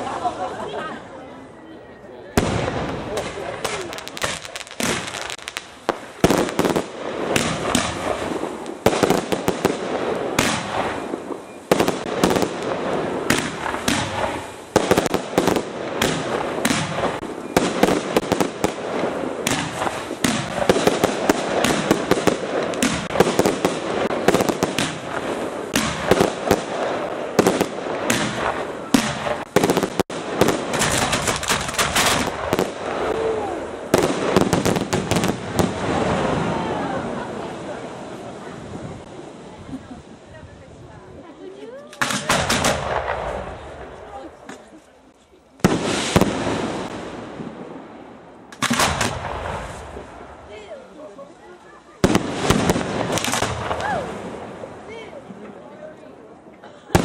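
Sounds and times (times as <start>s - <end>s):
fireworks bangs: 2.3s - 44.9s, 45.6s - 55.6s
fireworks crackle: 2.3s - 57.0s.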